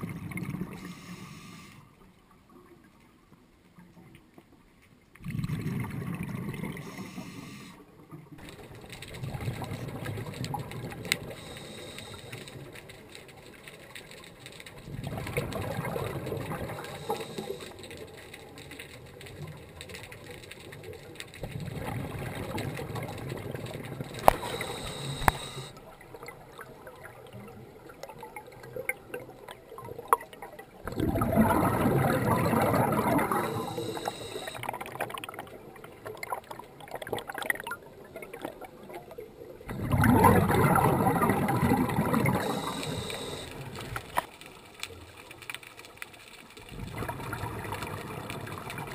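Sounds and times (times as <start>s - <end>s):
underwater exhaled air bubbling: 0.0s - 1.8s, 5.2s - 7.8s, 8.4s - 44.3s, 46.6s - 48.9s.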